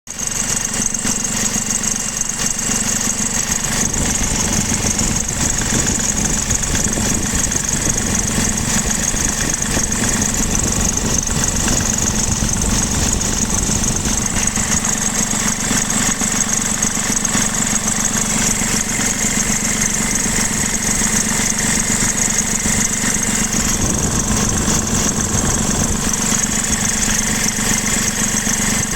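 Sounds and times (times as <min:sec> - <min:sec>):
diesel engine idling: 0:00.1 - 0:28.9
drive belt squealing: 0:00.2 - 0:28.9.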